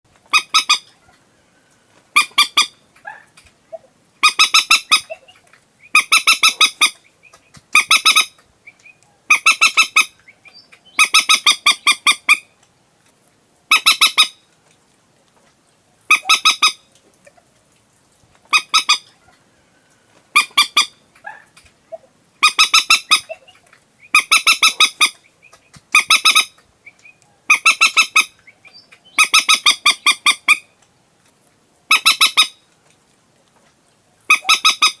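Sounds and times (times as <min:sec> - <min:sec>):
moorhen clucking calls: 0:00.2 - 0:12.6, 0:13.7 - 0:14.5, 0:16.0 - 0:17.5, 0:18.4 - 0:30.8, 0:31.9 - 0:32.7, 0:34.2 - 0:35.0.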